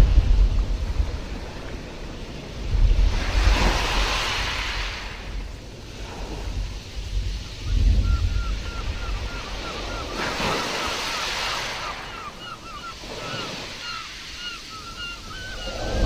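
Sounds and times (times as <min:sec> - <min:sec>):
waves washing on shore: 0:00.0 - 0:16.0.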